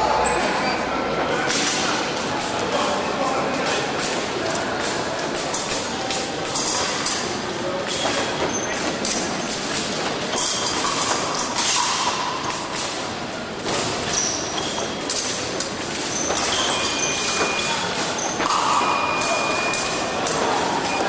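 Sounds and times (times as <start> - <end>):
din of large hall: 0.0 - 21.0.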